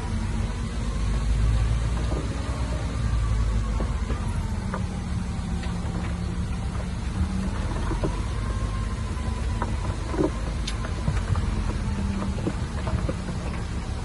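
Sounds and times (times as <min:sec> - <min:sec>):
diesel engine drone: 0:00.0 - 0:14.0
faint machine whine: 0:00.0 - 0:14.0.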